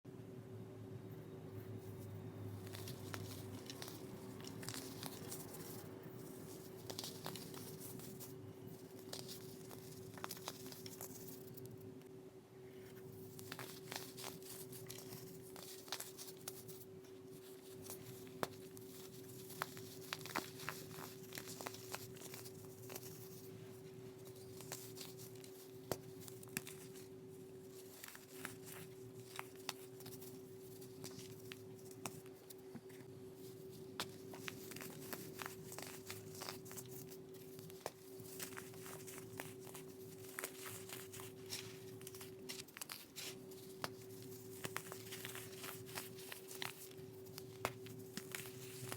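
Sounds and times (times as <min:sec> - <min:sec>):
baking soda crackling and crunching: 0:02.0 - 0:11.7, 0:13.0 - 0:32.6, 0:33.4 - 0:48.9.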